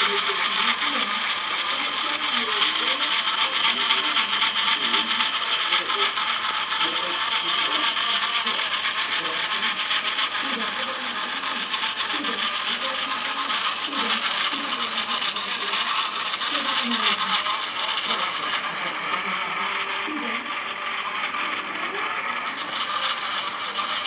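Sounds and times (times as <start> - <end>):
model locomotive engine sound: 0.0 - 24.0.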